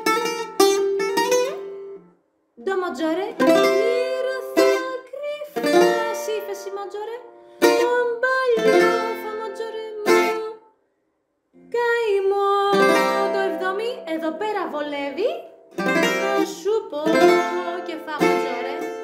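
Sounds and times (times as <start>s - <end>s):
bouzouki strumming chords: 0.0s - 2.1s, 3.2s - 10.6s, 12.7s - 19.0s
woman singing: 2.6s - 10.7s, 11.6s - 19.0s.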